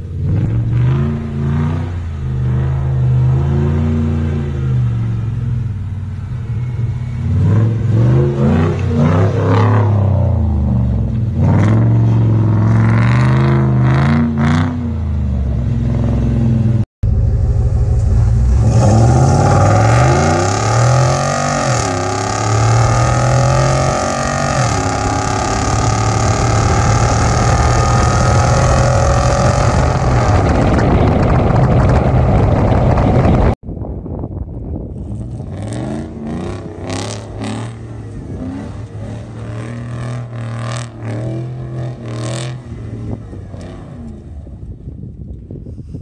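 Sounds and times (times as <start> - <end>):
truck engine accelerating: 0.0 - 33.6, 34.6 - 45.5
truck engine revving: 0.0 - 33.6, 35.0 - 44.8
wind and tyre noise: 0.0 - 46.0.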